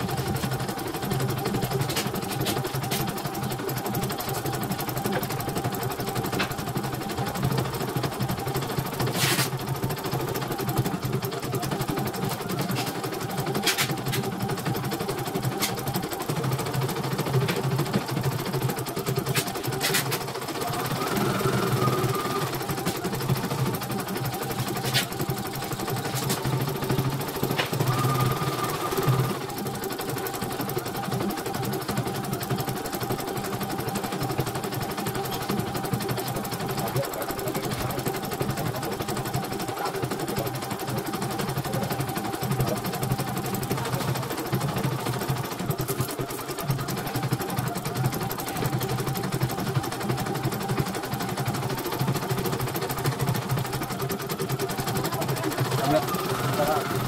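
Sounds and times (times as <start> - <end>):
embroidery machine stitching: 0.0 - 57.0.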